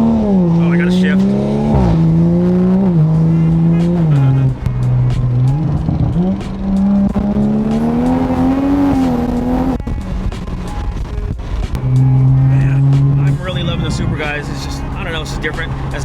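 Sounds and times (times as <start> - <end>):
sharp exhaust cracks: 0.0 - 16.0
turbocharged car engine revving: 0.0 - 16.0.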